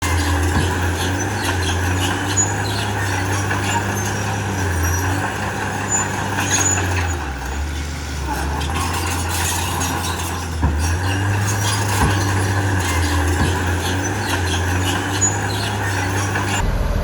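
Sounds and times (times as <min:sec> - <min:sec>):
light clanks of tracks and rock: 0:00.0 - 0:16.6
bulldozer diesel engine running: 0:00.0 - 0:17.0.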